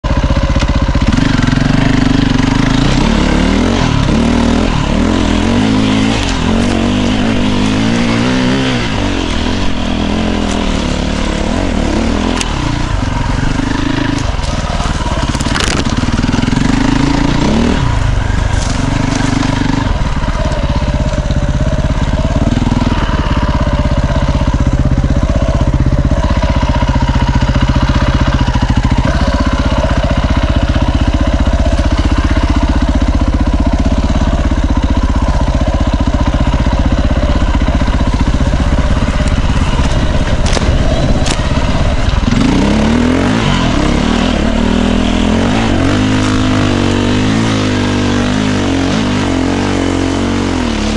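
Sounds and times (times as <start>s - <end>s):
motorcycle hitting the ground: 0.0s - 49.9s
motorcycle engine revving: 0.0s - 50.9s.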